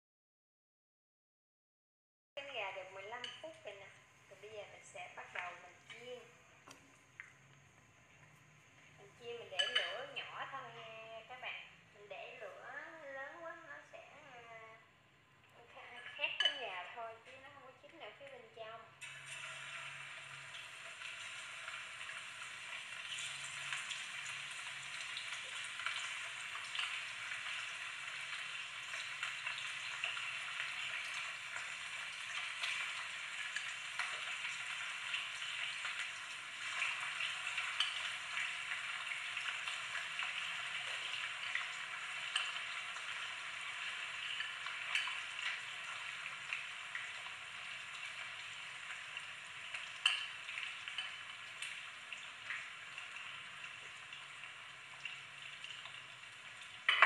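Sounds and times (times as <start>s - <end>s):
chicken frying in oil: 2.4s - 57.0s.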